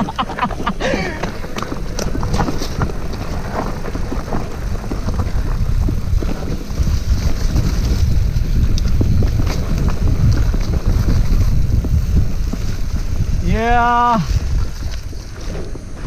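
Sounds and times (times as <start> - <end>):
bike clicks and rattles: 0.0 - 13.6, 14.3 - 16.0
wind buffeting microphone: 0.0 - 16.0.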